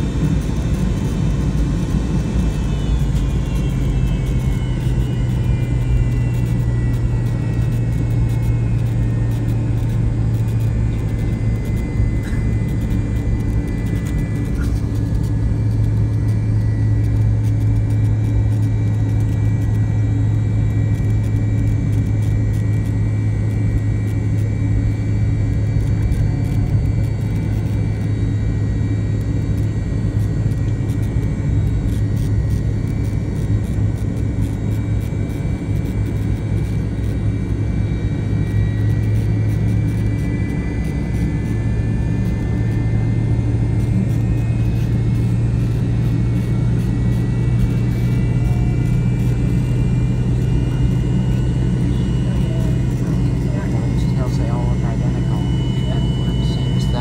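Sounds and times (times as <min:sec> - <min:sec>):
faint high whine: 0:00.0 - 0:57.0
jet engines idling hum: 0:00.0 - 0:57.0.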